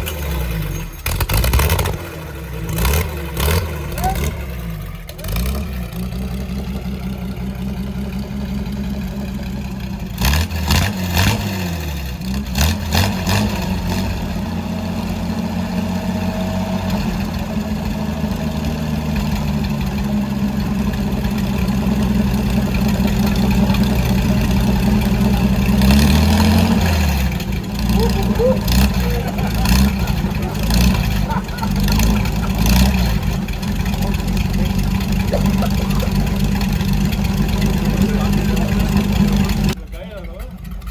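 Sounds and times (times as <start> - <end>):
petrol engine revving: 0.0 - 40.9.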